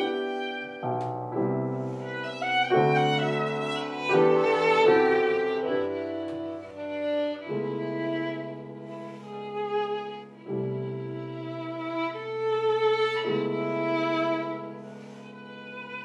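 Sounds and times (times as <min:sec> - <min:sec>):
piano chords: 0:00.0 - 0:16.0
violin melody: 0:00.0 - 0:16.0.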